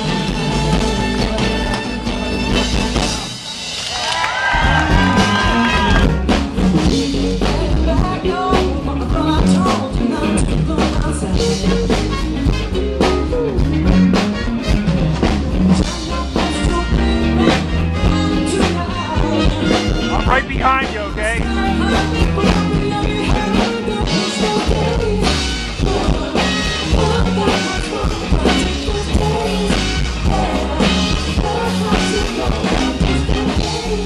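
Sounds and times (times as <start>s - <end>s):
band playing with drum kit: 0.0s - 34.0s.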